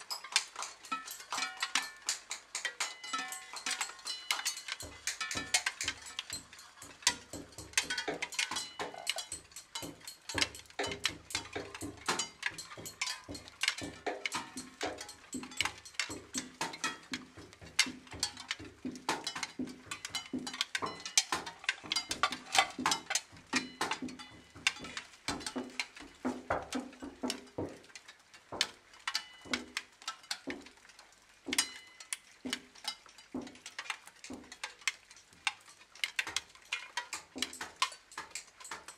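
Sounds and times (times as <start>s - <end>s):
dense clicking and crackling: 0.0s - 38.9s.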